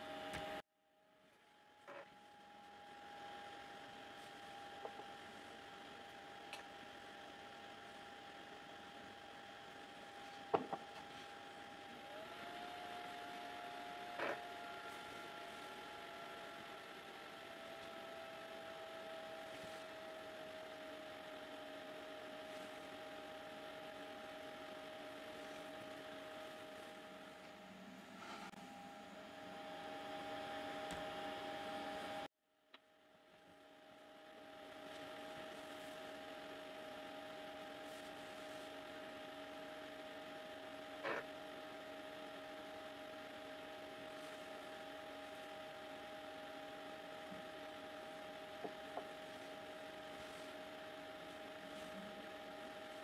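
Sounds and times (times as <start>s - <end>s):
machine hum and hiss: 0.0s - 32.3s, 33.0s - 53.0s.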